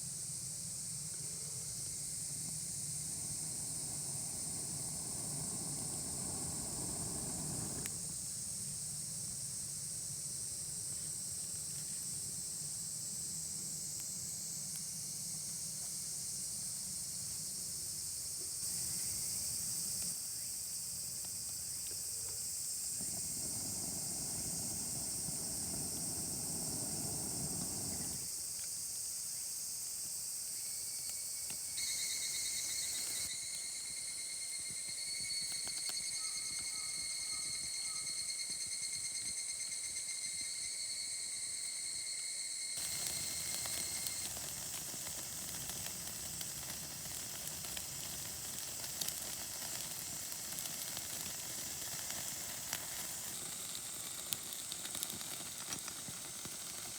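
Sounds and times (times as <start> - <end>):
insects trilling chorus: 0.0 - 56.9
steady pitched insect trill: 0.0 - 56.9.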